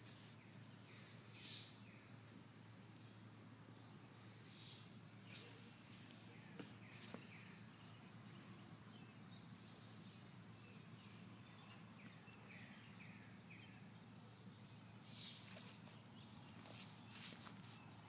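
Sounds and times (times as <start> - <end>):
distant bird chirps: 0.0 - 18.0
faint background hum: 0.0 - 18.0.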